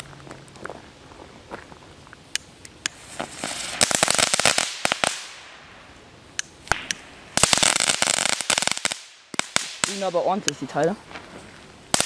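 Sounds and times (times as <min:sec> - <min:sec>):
crackling ground fireworks: 0:00.0 - 0:12.0.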